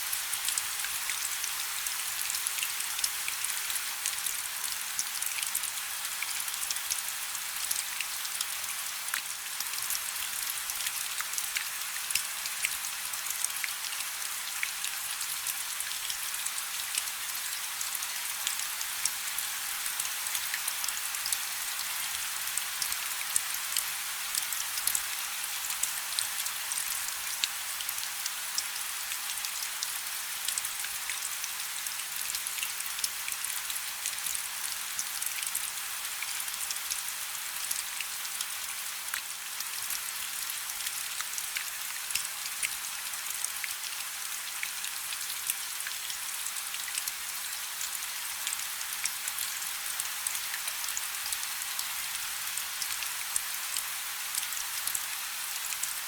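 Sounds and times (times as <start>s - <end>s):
rain hiss on river: 0.0s - 56.0s.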